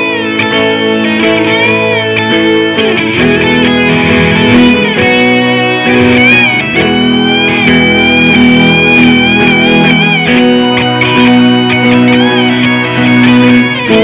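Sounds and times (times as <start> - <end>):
electric guitar lead melody: 0.0 - 14.0
rock accompaniment: 0.0 - 14.0.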